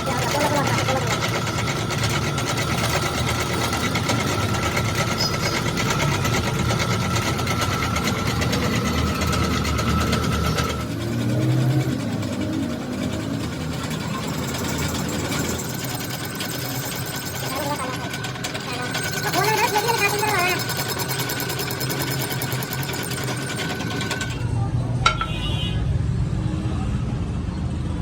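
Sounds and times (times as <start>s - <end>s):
machine clattering and whining: 0.0s - 25.7s.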